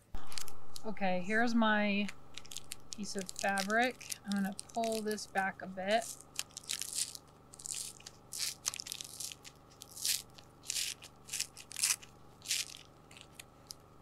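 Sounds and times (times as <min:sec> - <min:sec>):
foil bubble insulation crinkling: 0:02.0 - 0:14.0.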